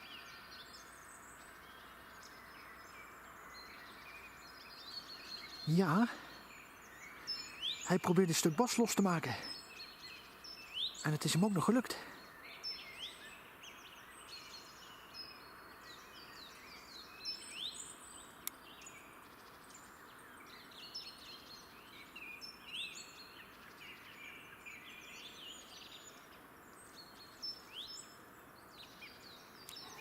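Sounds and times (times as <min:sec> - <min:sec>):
faint background hiss: 0:00.0 - 0:30.0
songbirds singing and chirping: 0:00.0 - 0:30.0.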